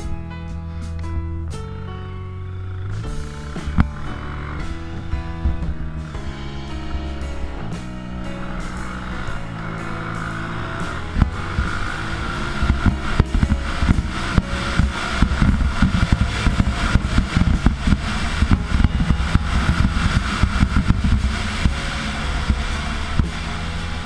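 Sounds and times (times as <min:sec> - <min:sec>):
low buffeting and thumps: 0:00.0 - 0:24.0
dirt bike engine running: 0:01.5 - 0:24.0.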